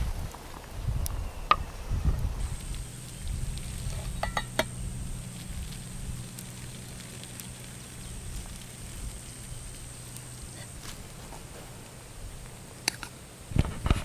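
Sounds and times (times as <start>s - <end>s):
low steady hum: 0.8s - 14.0s
campfire crackling and popping: 2.4s - 14.0s.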